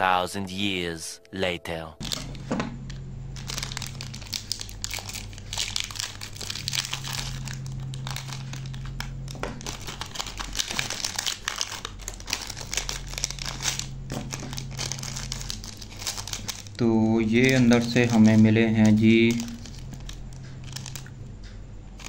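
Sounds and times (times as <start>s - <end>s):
plastic wrapper crinkling: 2.0s - 21.2s.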